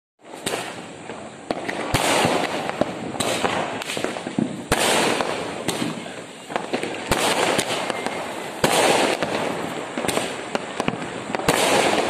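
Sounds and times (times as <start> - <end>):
firecracker bangs: 0.2 - 12.0
fireworks crackling and hissing: 0.2 - 12.0.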